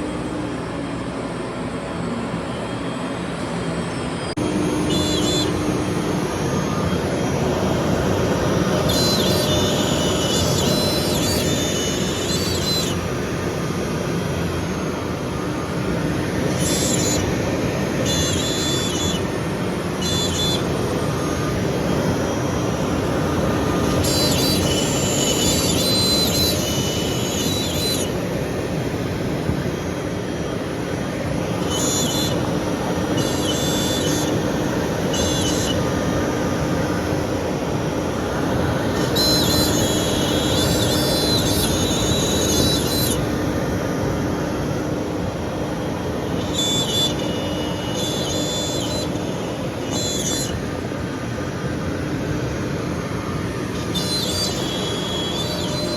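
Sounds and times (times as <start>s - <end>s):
machinery roaring: 0.0s - 49.8s.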